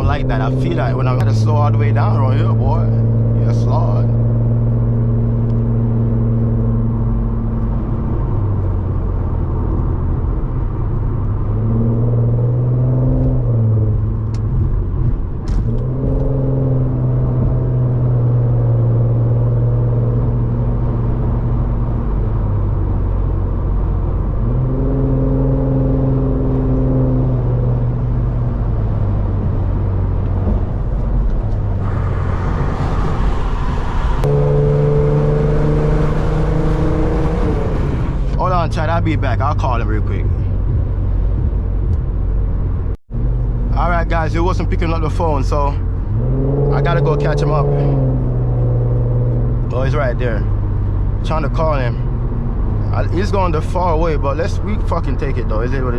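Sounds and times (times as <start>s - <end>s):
car engine from inside cabin: 0.0s - 55.9s.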